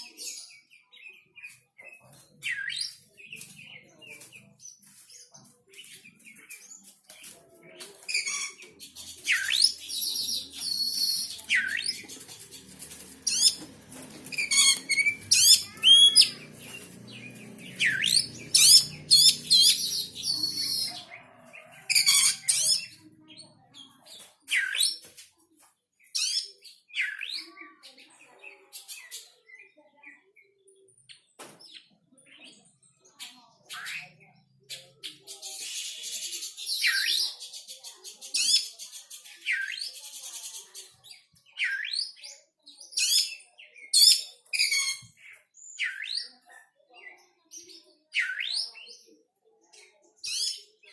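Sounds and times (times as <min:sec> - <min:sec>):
songbird chirping and singing: 0:00.0 - 0:50.9.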